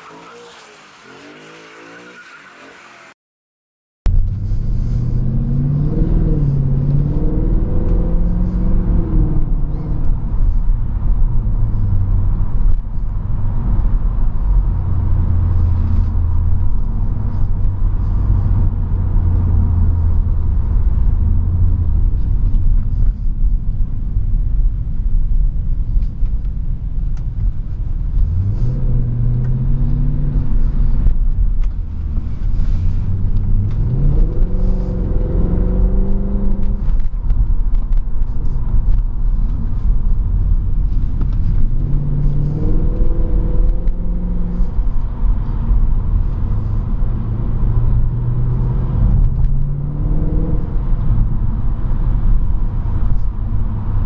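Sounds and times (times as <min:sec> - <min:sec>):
car engine revving: 0:04.1 - 0:23.3, 0:28.1 - 0:54.0.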